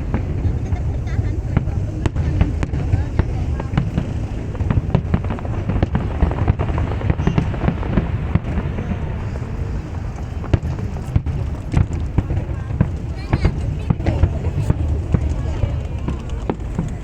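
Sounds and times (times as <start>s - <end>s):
deep rumble of booms: 0.0s - 17.0s
fireworks bangs and crackles: 0.0s - 17.0s.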